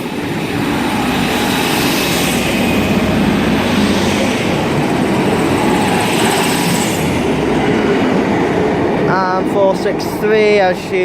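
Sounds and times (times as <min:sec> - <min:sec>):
diesel train engines rumbling: 0:00.0 - 0:11.0
train wheels on rails: 0:00.0 - 0:11.0.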